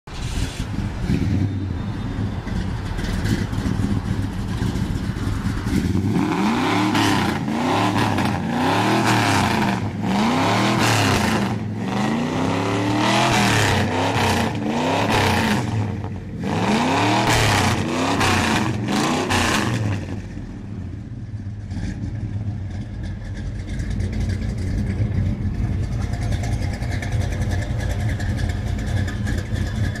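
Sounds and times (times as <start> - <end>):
truck engine idling and revving: 0.0 - 30.0.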